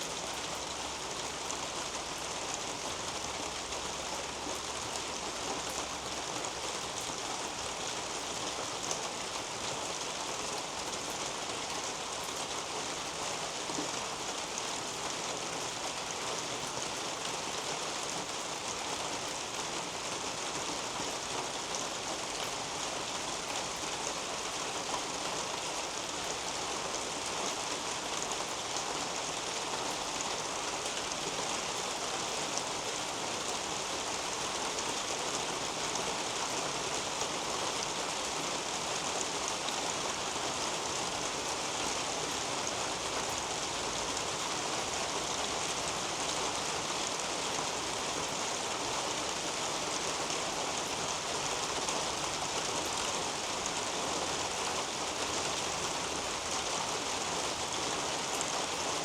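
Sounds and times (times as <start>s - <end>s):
rain on leaves and roof: 0.0s - 59.0s.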